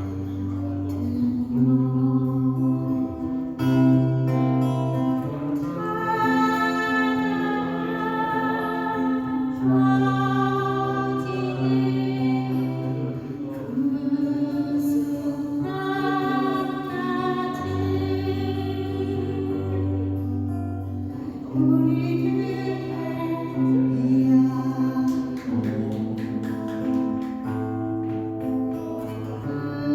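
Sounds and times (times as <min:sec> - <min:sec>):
woman singing slow ballad: 0:00.0 - 0:29.9.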